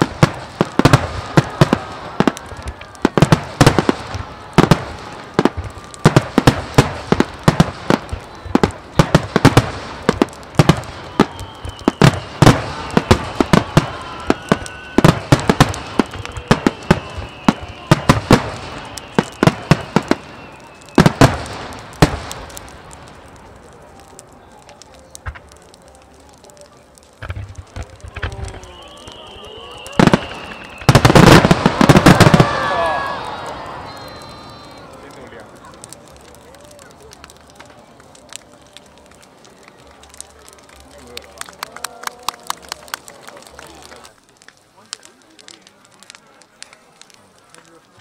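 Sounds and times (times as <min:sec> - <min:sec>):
fireworks bursting with sharp bangs: 0:00.0 - 0:48.0.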